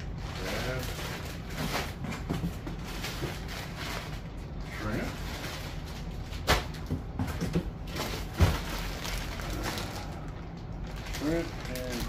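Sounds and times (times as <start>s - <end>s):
plastic bags rustling: 0.0s - 12.0s
steady low hum: 0.0s - 12.0s.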